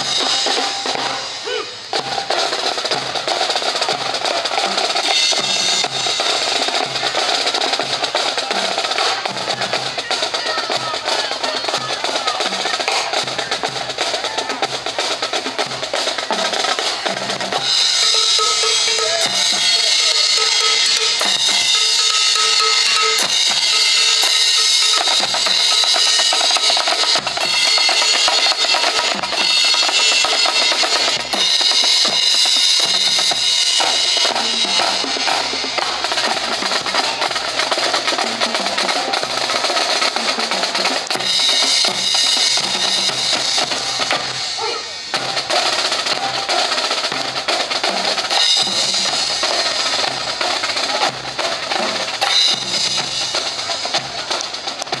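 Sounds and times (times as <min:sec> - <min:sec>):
marching drumline: 0:00.0 - 0:55.0.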